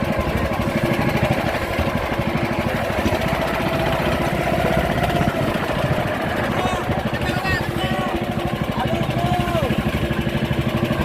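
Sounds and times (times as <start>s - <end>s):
small boat engine chugging: 0.0s - 11.0s.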